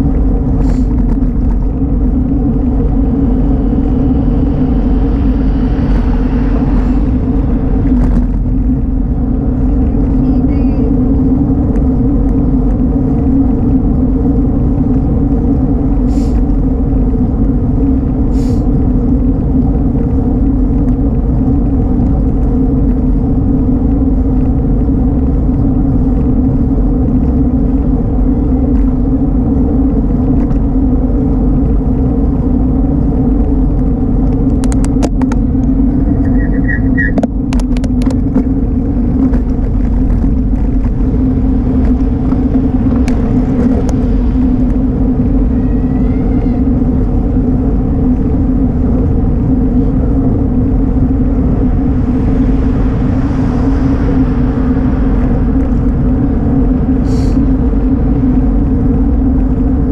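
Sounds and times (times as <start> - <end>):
road and wind rumble: 0.0 - 59.9.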